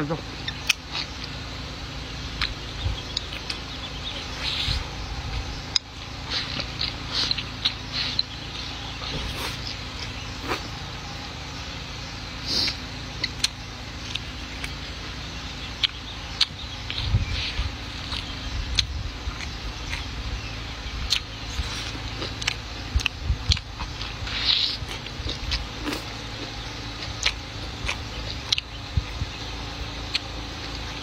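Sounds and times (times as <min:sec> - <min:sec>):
steady low rumble: 0:00.0 - 0:31.0
chewing with lip smacks: 0:00.5 - 0:01.4, 0:02.3 - 0:11.3, 0:12.4 - 0:31.0.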